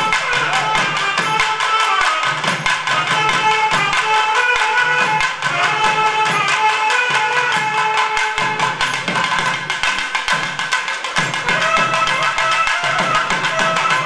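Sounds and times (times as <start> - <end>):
barrel drum beating: 0.0 - 14.0.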